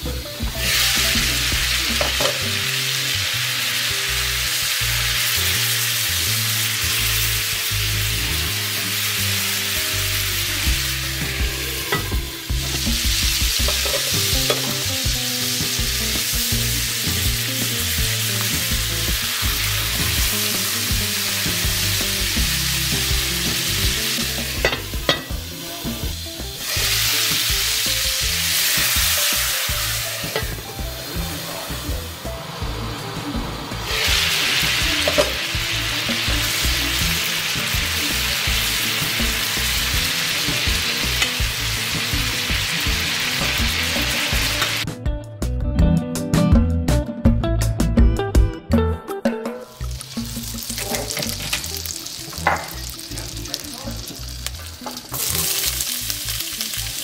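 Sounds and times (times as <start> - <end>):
chicken sizzling in a pot: 0.0 - 44.9, 49.7 - 57.0.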